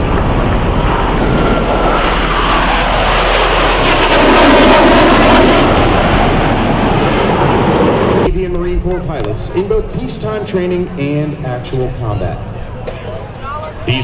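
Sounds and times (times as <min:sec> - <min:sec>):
jet flying past: 0:00.0 - 0:14.0.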